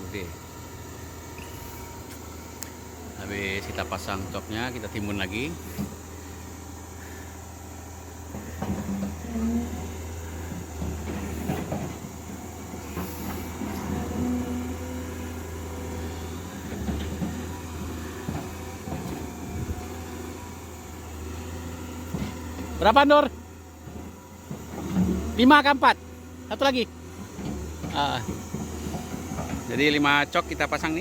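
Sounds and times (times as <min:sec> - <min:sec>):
excavator diesel engine hum: 0:00.0 - 0:31.0.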